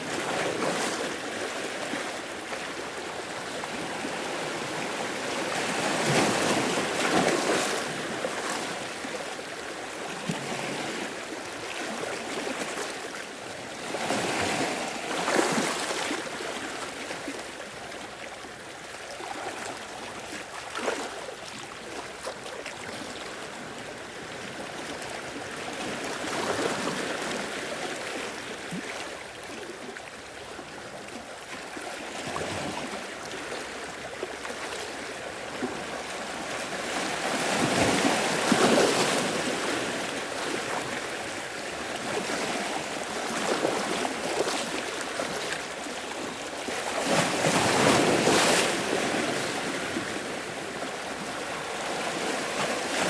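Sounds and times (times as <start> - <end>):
small waves lapping against rocks: 0.0 - 53.0.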